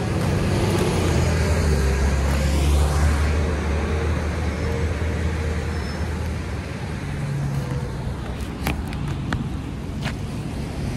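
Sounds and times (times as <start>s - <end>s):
road traffic: 0.0s - 10.9s
vehicle engine hum: 0.0s - 10.9s.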